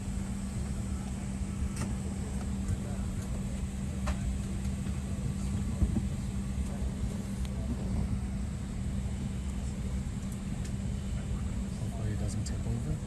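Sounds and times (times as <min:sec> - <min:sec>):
airliner cabin hum: 0:00.0 - 0:13.0.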